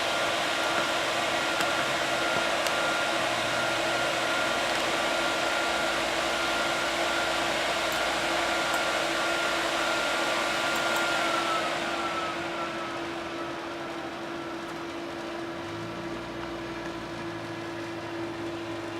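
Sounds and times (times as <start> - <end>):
cooling fans whirring: 0.0 - 18.9.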